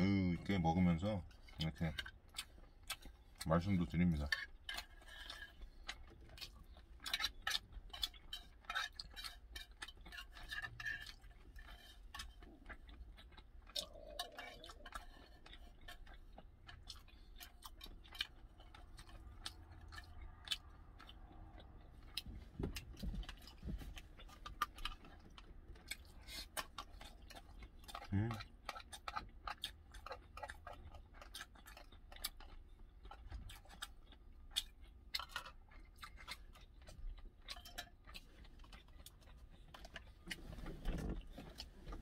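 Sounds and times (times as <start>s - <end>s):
chewing: 0.0s - 42.0s.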